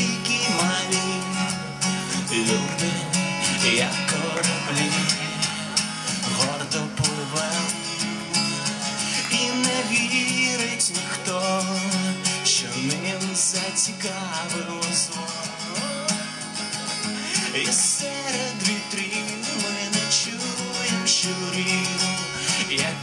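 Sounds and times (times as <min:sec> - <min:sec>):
man singing: 0:00.0 - 0:23.0
strummed acoustic guitar: 0:00.0 - 0:23.0.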